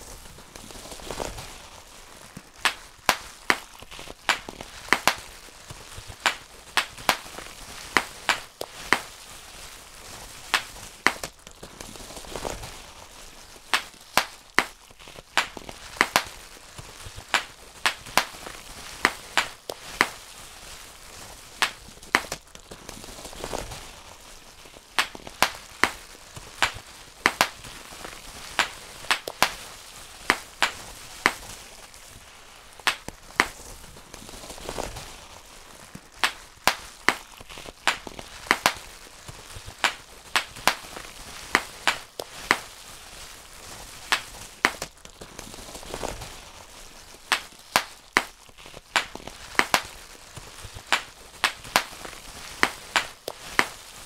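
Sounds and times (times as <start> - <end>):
bubble wrap popping: 0.0 - 54.0.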